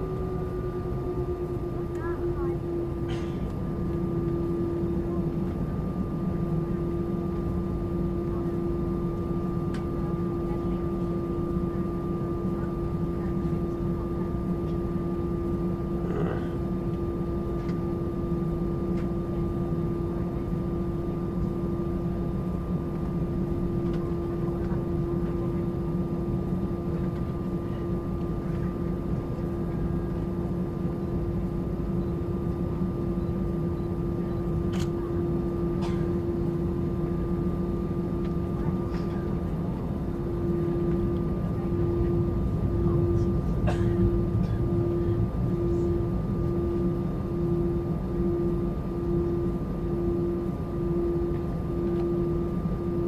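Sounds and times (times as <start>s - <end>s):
airplane cabin hum: 0.0s - 53.0s.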